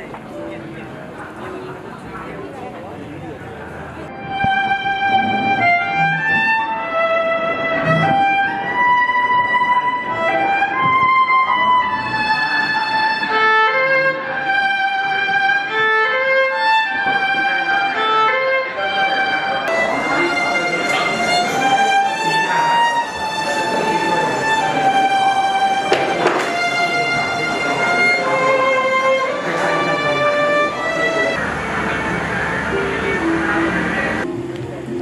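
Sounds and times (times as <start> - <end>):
solo violin melody: 4.0 - 35.0.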